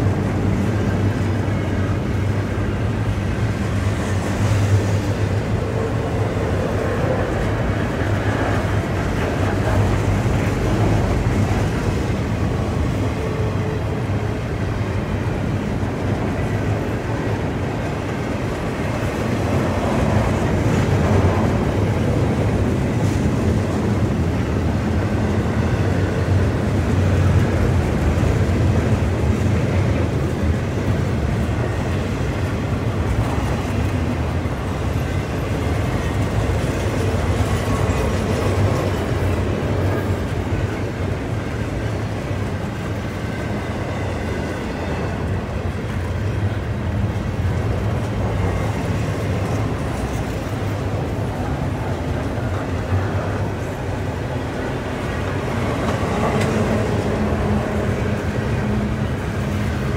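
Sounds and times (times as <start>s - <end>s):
freight train wheels clattering on rails: 0.0s - 59.9s.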